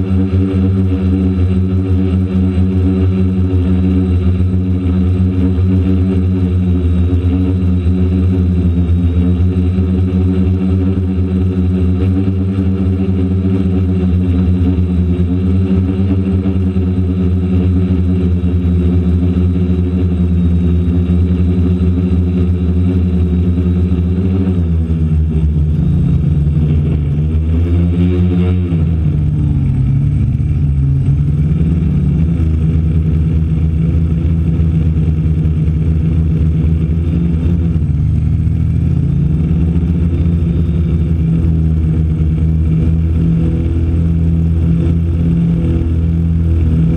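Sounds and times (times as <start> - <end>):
quadcopter motors buzzing: 0.0 - 46.9.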